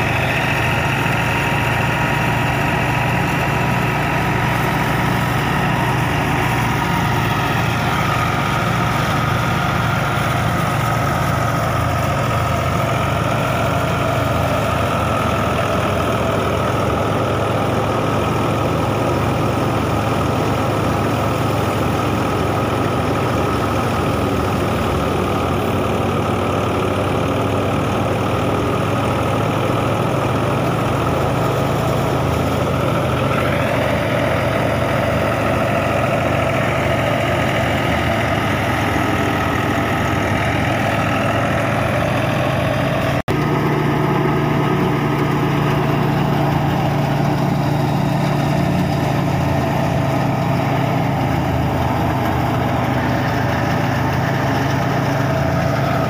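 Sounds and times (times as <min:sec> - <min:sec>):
thresher drum running: 0:00.0 - 0:56.0
tractor engine drone: 0:00.0 - 0:56.0.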